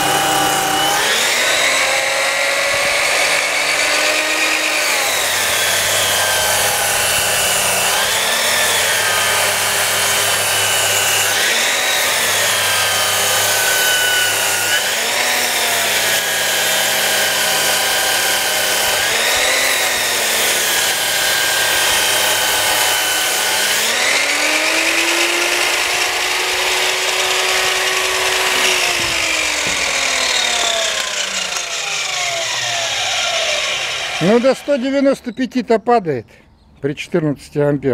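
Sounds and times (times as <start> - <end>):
circular saw motor whine: 0.0 - 35.2.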